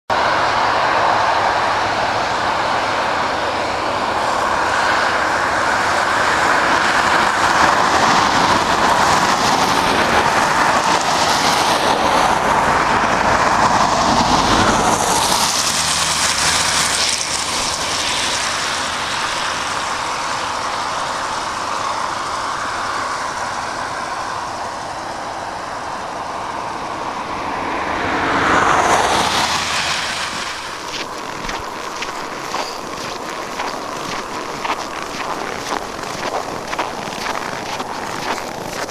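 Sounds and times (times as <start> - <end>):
highway traffic passing: 0.1 - 38.9.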